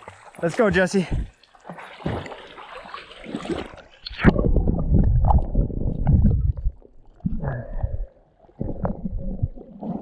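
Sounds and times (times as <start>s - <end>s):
muffled churning water: 0.0s - 10.0s
water sloshing and gurgling: 0.0s - 10.0s.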